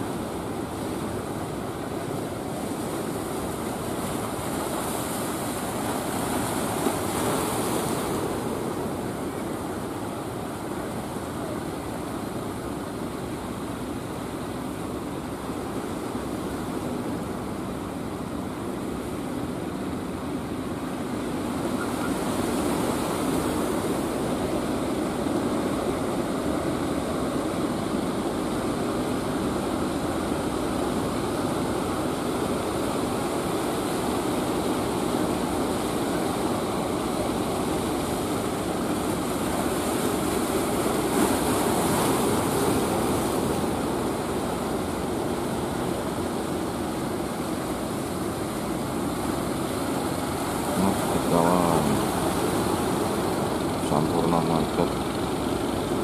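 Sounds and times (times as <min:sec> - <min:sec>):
surf rushing: 0:00.0 - 0:56.0.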